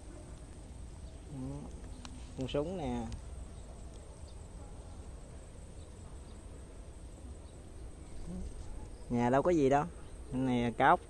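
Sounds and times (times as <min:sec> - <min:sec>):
faint background hiss: 0:00.0 - 0:11.0
low steady rumble: 0:00.0 - 0:11.0.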